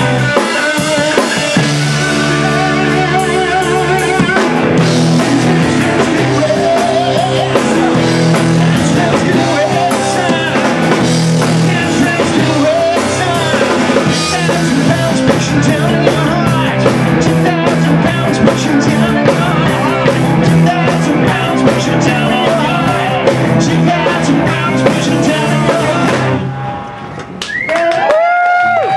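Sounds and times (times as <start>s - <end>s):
person singing: 0.0s - 26.4s
drum kit: 0.0s - 27.4s
electric guitars: 0.0s - 27.4s.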